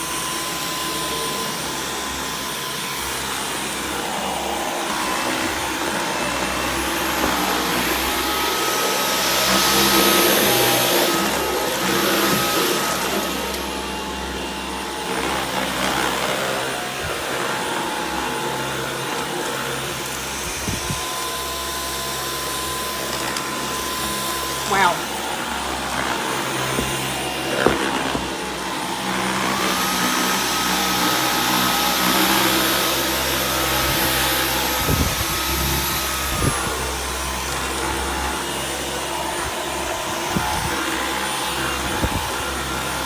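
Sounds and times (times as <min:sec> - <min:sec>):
cordless vacuum cleaner whining: 0:00.0 - 0:43.0.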